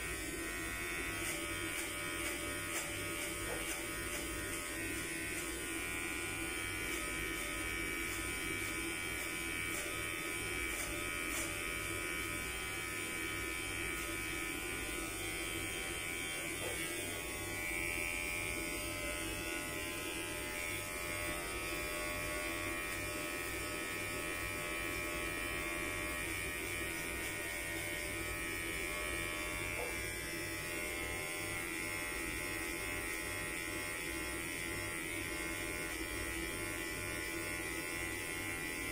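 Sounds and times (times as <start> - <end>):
electric hair clipper buzzing: 0.0 - 38.9.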